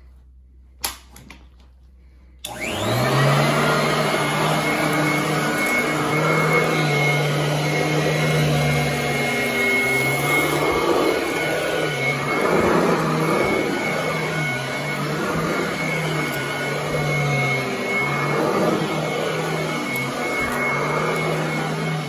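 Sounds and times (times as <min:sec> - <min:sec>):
vacuum cleaner running over carpet: 0:02.5 - 0:22.0.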